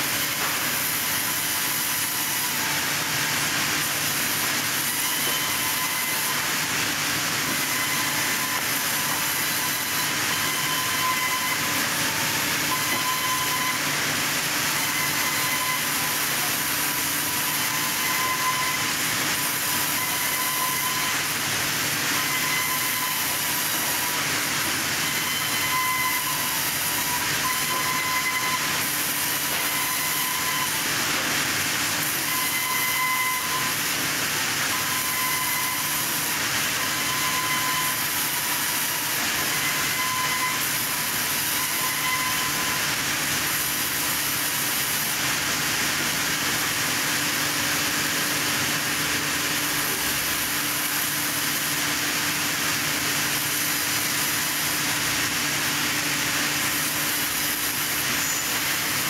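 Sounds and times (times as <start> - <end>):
sawmill saws cutting timber: 0.0 - 59.0.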